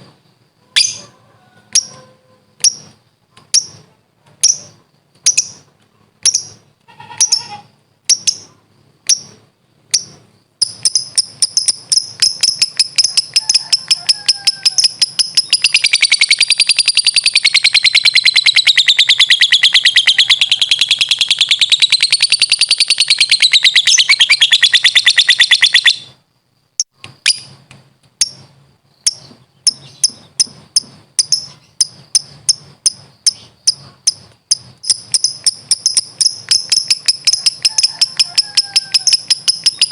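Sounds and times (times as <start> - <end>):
lovebird chirps and chattering trill: 0.7 - 26.2, 26.8 - 27.6, 28.2 - 39.9.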